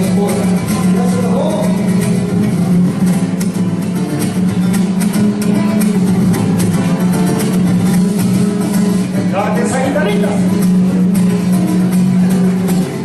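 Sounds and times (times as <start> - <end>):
mariachi band playing: 0.0 - 13.0.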